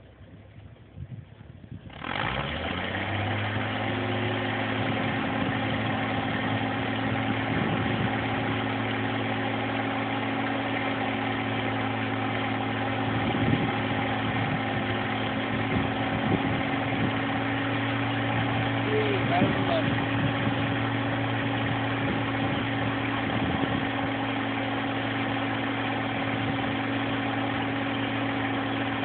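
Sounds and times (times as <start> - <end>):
diesel engine revving: 1.7 - 29.0.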